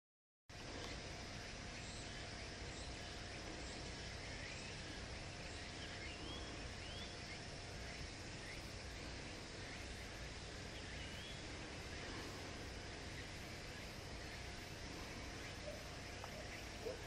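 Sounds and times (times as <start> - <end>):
bird rising chirps: 0.8 - 17.0.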